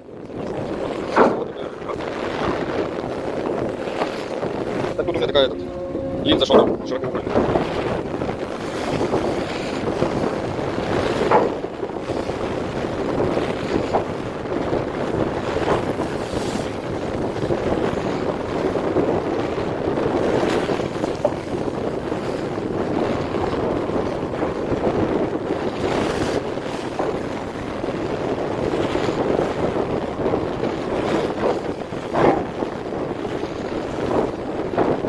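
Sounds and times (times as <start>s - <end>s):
sea water rushing along hull: 0.0s - 35.0s
wind buffeting microphone: 0.0s - 35.0s.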